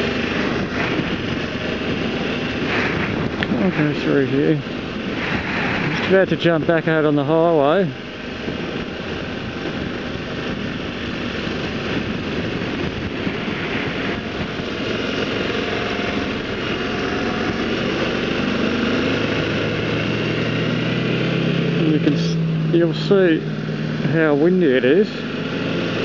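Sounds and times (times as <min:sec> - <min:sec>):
wind noise over microphone: 0:00.0 - 0:22.7
motorcycle engine accelerating: 0:00.0 - 0:26.0.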